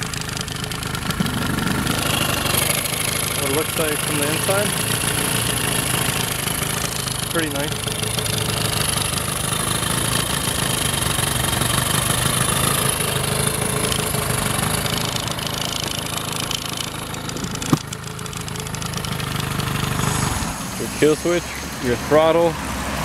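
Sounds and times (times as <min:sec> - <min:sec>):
outboard motor idling: 0:00.0 - 0:23.0.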